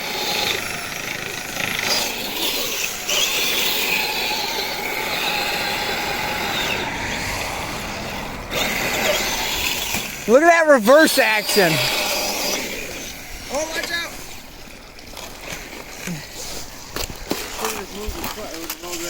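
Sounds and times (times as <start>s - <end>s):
electric motor whine: 0.0s - 15.9s.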